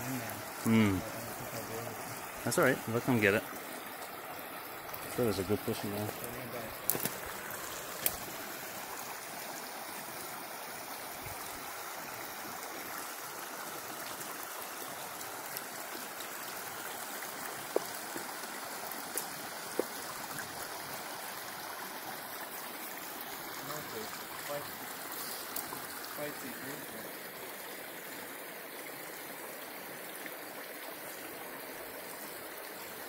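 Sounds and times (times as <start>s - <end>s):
brook running: 0.0s - 33.0s.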